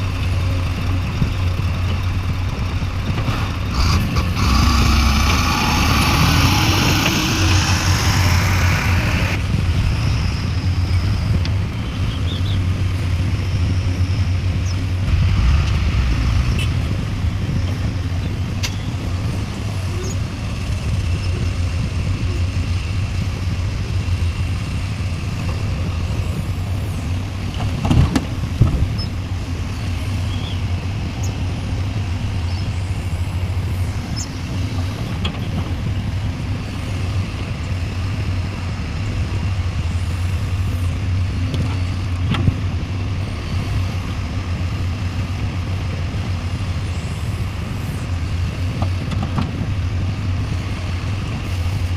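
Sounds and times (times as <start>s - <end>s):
excavator diesel engine humming: 0.0s - 51.9s.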